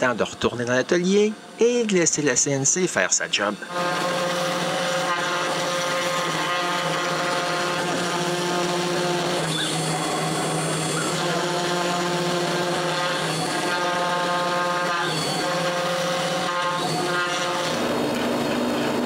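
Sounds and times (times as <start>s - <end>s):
router spindle cutting wood: 0.0s - 19.0s.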